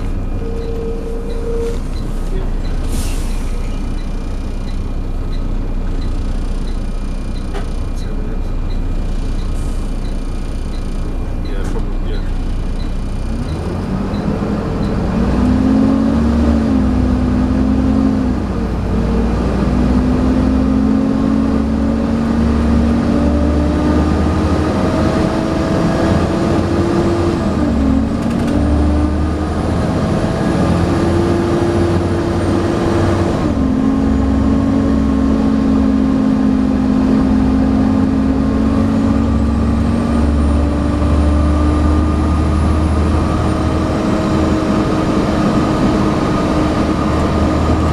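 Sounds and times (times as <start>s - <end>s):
diesel bus engine pulling hard: 0.0s - 47.9s
high engine whine: 0.0s - 47.9s.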